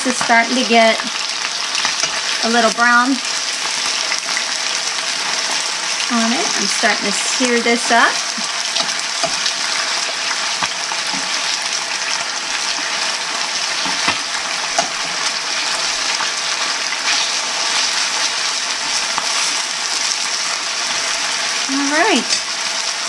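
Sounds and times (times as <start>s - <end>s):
chicken sizzling in frying pan: 0.0s - 23.0s.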